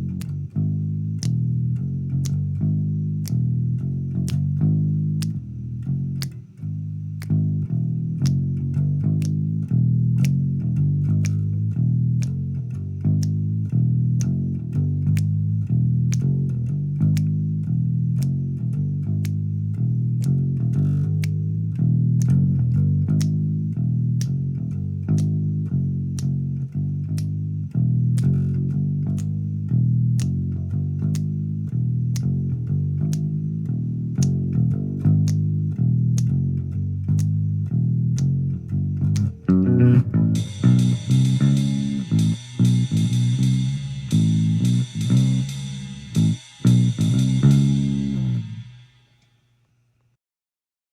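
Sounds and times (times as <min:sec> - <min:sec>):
bass guitar riff: 0:00.0 - 0:49.0
sharp percussive tick: 0:00.0 - 0:49.0.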